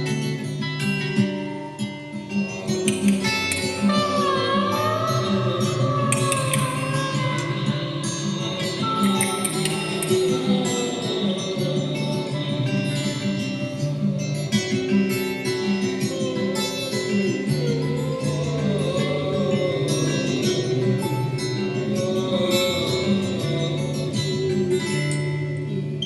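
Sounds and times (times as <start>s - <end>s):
plucked guitar: 0.0s - 26.0s.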